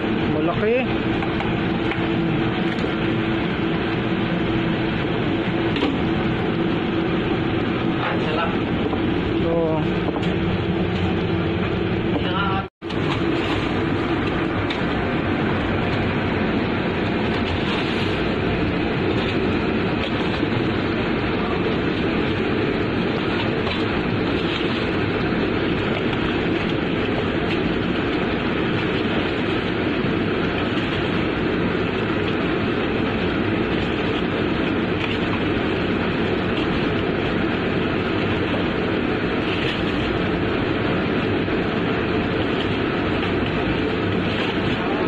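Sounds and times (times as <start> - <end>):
ship machinery running: 0.0 - 45.0.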